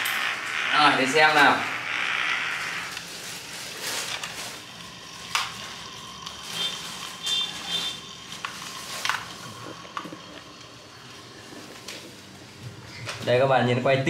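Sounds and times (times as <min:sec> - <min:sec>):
spinning top whirring on tile: 0:00.0 - 0:12.4
high-pitched whine: 0:00.0 - 0:13.4.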